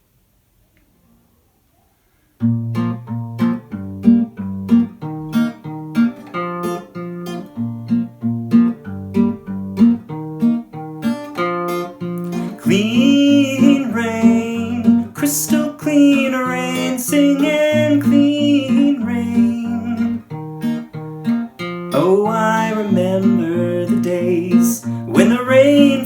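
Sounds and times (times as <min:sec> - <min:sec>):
acoustic guitar strumming chords: 0:02.4 - 0:26.0.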